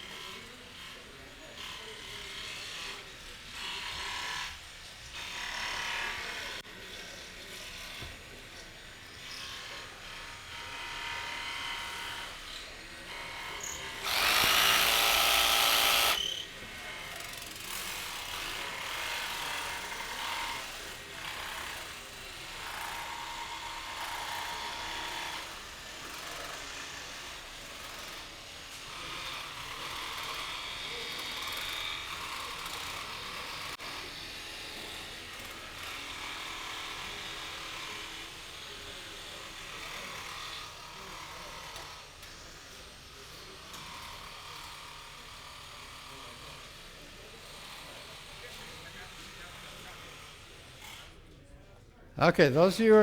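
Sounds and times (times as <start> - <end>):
distant jigsaws cutting wood: 0.0 - 51.3
jigsaw running loudly close by: 0.0 - 51.3.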